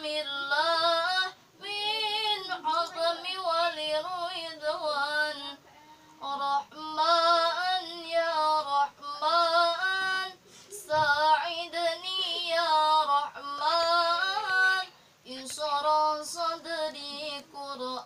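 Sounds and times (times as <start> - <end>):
young voice singing devotional song: 0.0 - 18.0.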